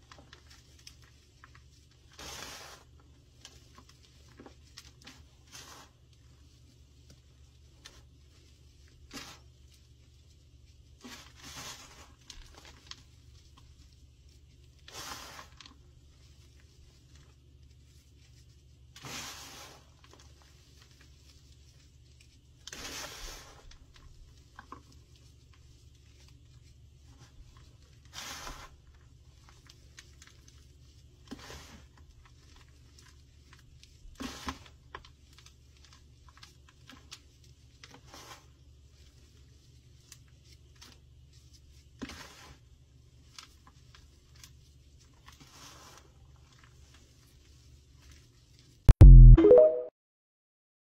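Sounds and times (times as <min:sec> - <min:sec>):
chalk cake crunching by hand: 0:00.0 - 0:10.1, 0:14.6 - 0:48.8.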